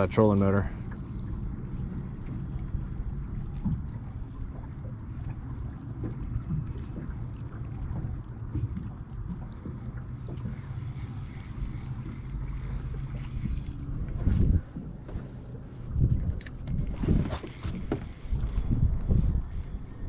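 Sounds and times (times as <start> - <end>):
waves lapping against boat hull: 0.0 - 20.0
wind rumbling on microphone: 0.0 - 20.0.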